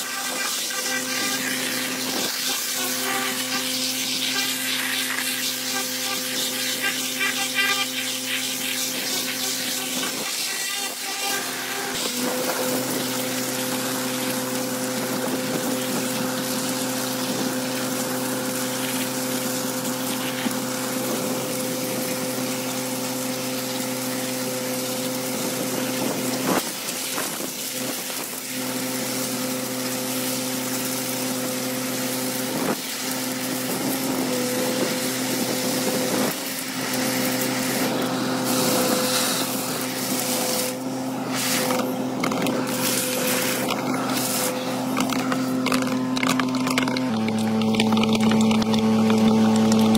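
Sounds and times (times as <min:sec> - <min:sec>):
slurry sucked up a hose: 0:00.0 - 0:22.7, 0:24.8 - 0:49.8
suction machinery drone: 0:00.0 - 0:22.7, 0:25.0 - 0:49.9
high-pressure water jet hissing: 0:00.0 - 0:49.9.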